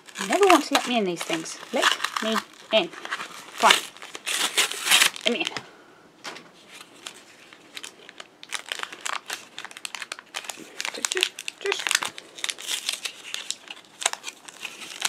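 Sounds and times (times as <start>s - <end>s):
plastic packaging crinkling: 0.0s - 5.6s, 6.6s - 15.0s.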